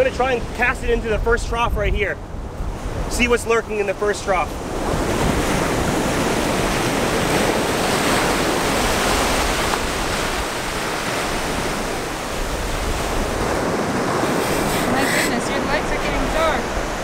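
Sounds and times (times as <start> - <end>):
ocean waves breaking: 2.2 - 17.0.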